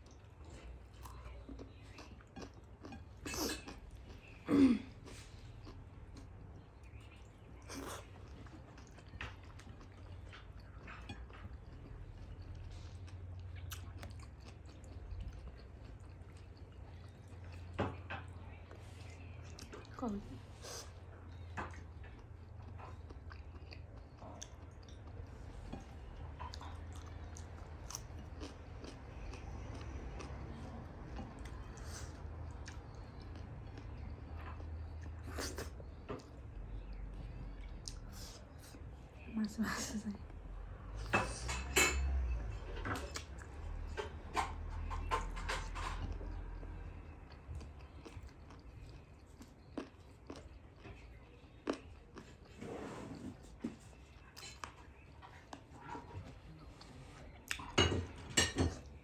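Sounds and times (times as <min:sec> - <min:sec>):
person chewing food: 0:00.0 - 0:39.2, 0:40.2 - 0:59.0.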